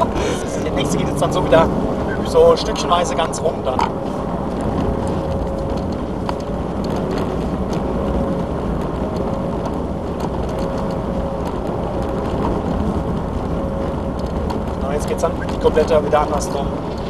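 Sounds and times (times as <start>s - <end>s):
car engine running: 0.0s - 17.0s
tyre and road noise: 0.0s - 17.0s.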